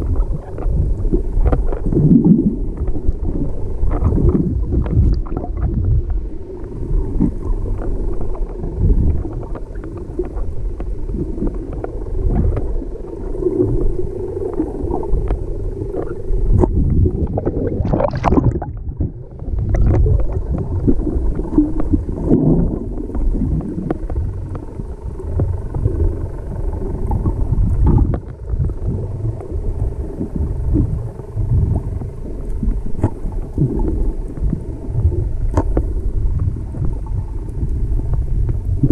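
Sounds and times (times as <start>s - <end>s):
muffled underwater rumble: 0.0s - 38.9s
underwater knocks and gurgling: 0.0s - 38.9s.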